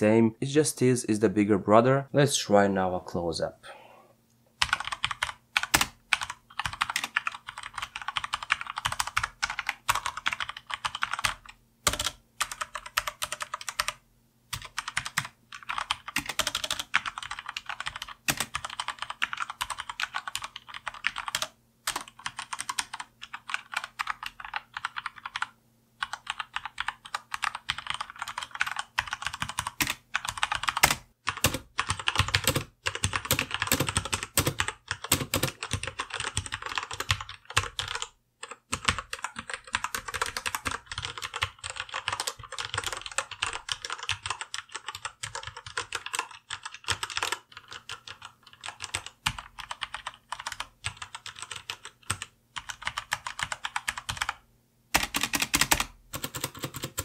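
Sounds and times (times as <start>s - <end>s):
fast typing on mechanical keyboard: 4.6s - 54.4s, 55.0s - 57.0s.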